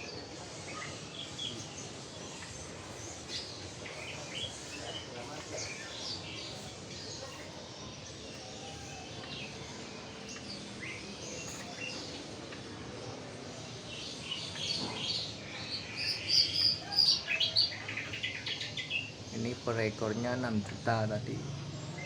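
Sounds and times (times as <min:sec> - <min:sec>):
young songbirds chirping: 0:00.0 - 0:22.0.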